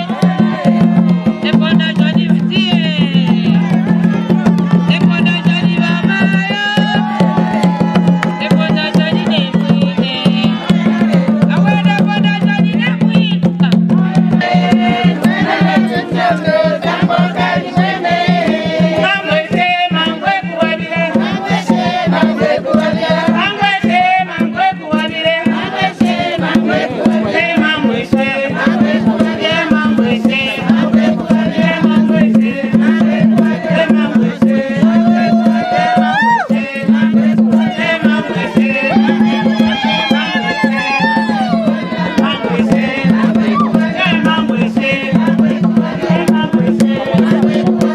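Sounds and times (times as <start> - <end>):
fast hand drumming: 0.0 - 47.9
voices singing: 0.0 - 47.9.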